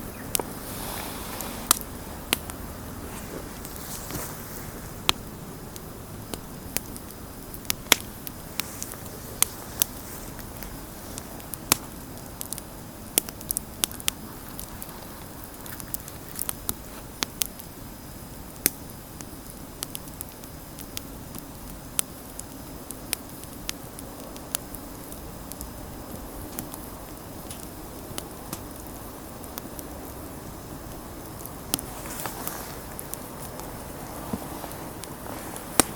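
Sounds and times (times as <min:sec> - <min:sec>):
campfire crackling and popping: 0:00.0 - 0:35.9
low rush of flames: 0:00.0 - 0:35.9.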